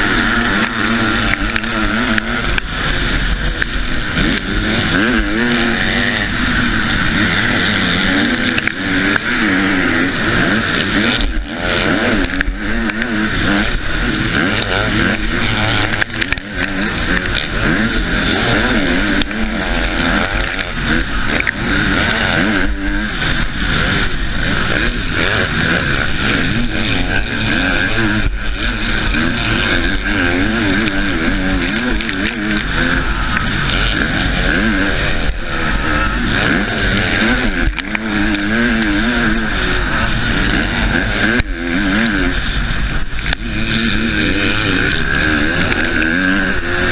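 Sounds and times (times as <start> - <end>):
motorcycle engine revving: 0.0 - 46.9
wind rushing over microphone: 0.0 - 46.9.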